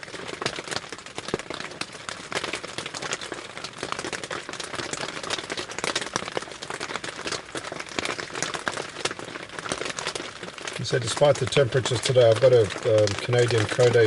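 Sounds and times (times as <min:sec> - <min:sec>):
raindrops pattering on tarp: 0:00.0 - 0:14.0.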